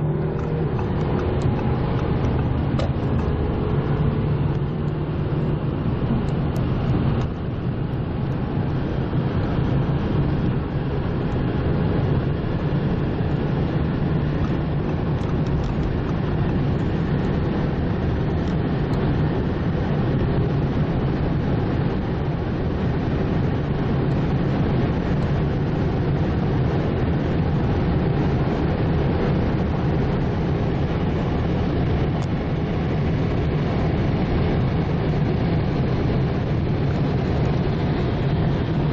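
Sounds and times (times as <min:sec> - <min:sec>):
car engine drone at high speed: 0:00.0 - 0:38.9
road noise: 0:00.0 - 0:38.9
wind noise: 0:00.0 - 0:38.9.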